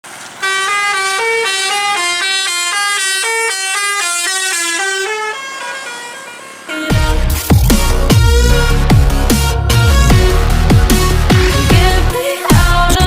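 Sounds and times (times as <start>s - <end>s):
multi-tone bus horn melody: 0.2s - 12.5s.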